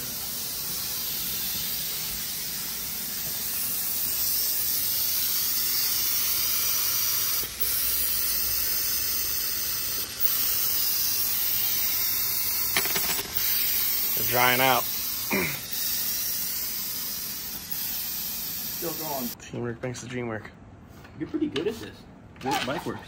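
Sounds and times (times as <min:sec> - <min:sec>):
compressed air hissing: 0:00.0 - 0:19.4.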